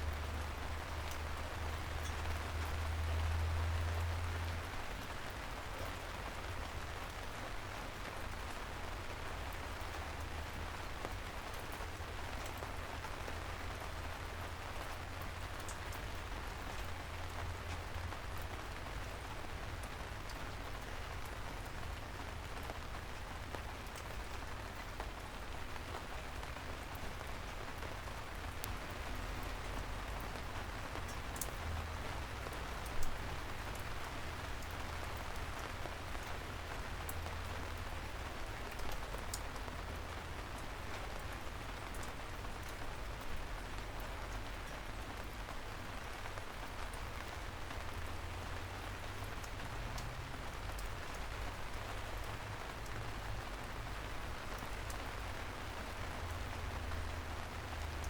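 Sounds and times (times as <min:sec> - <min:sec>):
gentle rain pattering on street: 0:00.0 - 0:58.0
raindrops ticking: 0:00.0 - 0:58.0.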